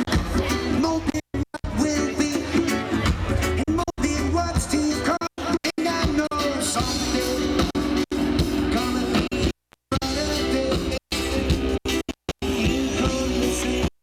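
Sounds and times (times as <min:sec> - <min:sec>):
live reggae band playing: 0:00.0 - 0:14.0.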